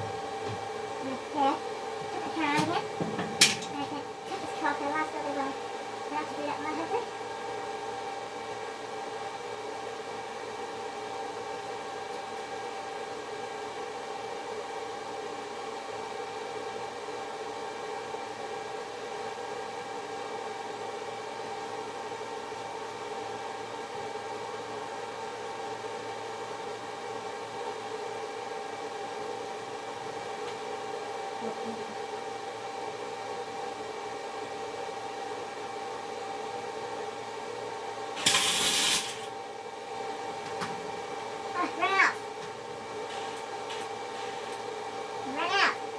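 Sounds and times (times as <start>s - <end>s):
machine hum with high whine: 0.0s - 45.9s.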